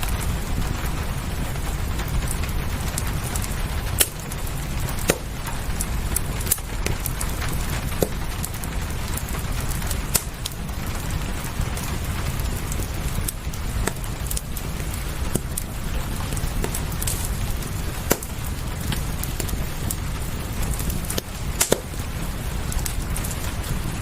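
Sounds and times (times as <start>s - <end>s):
rain hissing: 0.0s - 24.0s
wood fire crackling: 0.0s - 24.0s.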